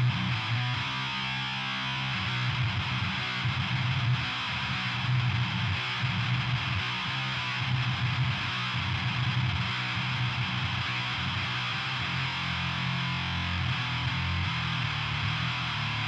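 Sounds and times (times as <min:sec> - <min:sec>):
bass guitar: 0:00.0 - 0:16.0
distorted electric guitar riff: 0:00.0 - 0:16.0.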